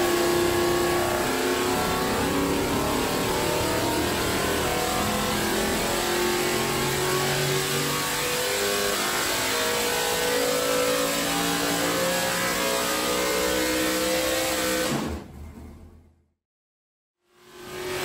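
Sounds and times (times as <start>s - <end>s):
race engine revving on dynamometer: 0.0s - 15.0s, 17.4s - 18.0s.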